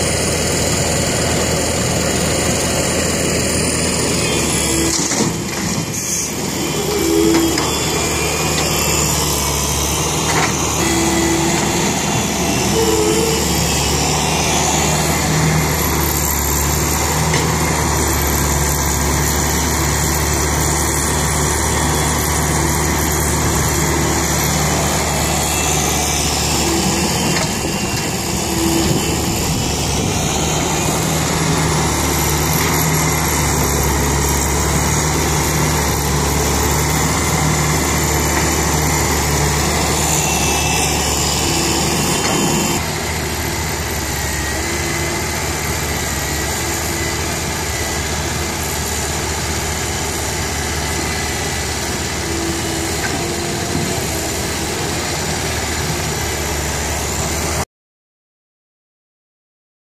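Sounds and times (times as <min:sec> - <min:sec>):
excavator diesel engine running: 0:00.0 - 0:57.6.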